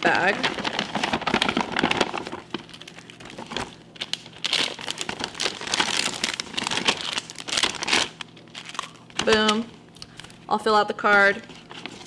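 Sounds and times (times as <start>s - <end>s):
candy packages crinkling: 0.0s - 10.5s.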